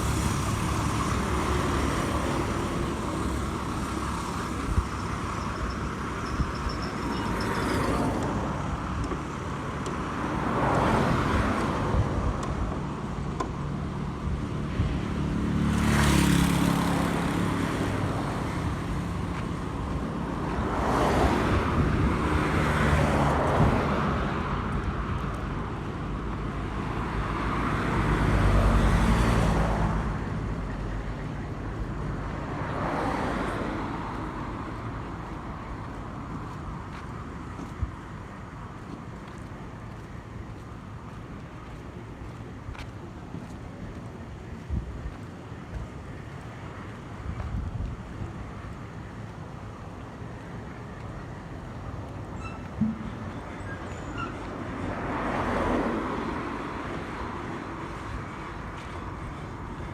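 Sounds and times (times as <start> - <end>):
low traffic rumble: 0.0 - 59.9
vehicles passing: 0.0 - 59.9.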